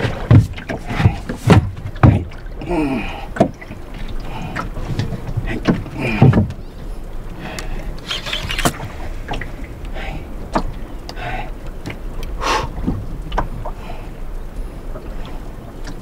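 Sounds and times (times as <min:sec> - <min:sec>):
water splashing against boat hull: 0:00.0 - 0:16.0.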